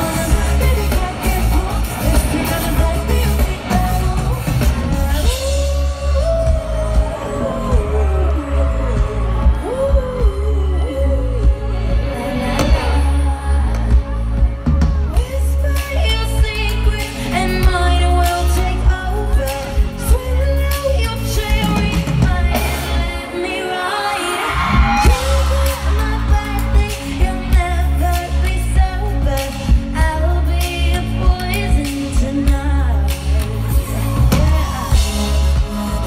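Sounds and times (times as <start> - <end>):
heavy pulsing bass: 0.0 - 23.1, 24.8 - 36.0
live pop band music: 0.0 - 36.0.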